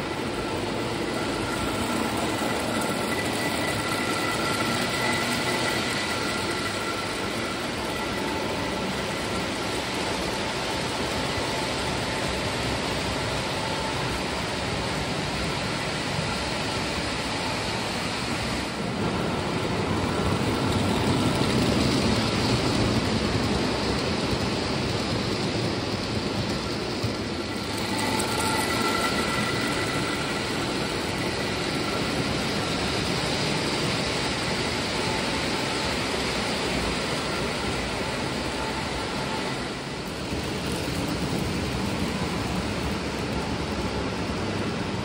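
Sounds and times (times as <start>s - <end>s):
model train wheels rumbling: 0.0s - 45.0s.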